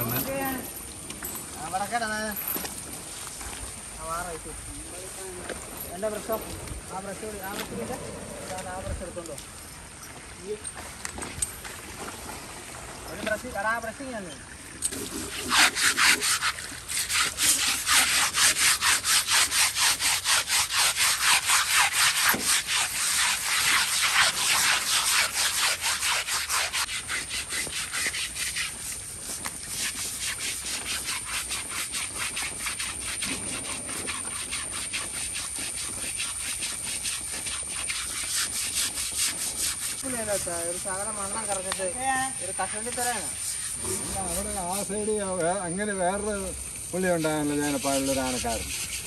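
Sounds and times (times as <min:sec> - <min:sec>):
rhythmic scrubbing of hide: 0:00.0 - 0:07.9, 0:14.9 - 0:49.0.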